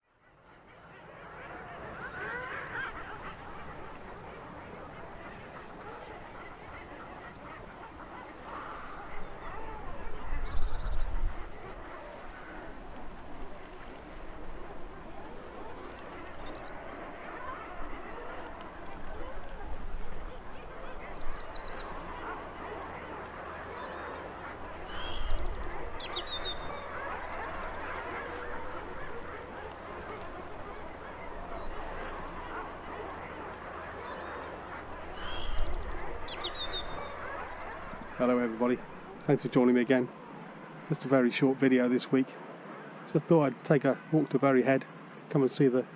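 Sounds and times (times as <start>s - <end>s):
seabirds honking calls: 0.5s - 41.5s.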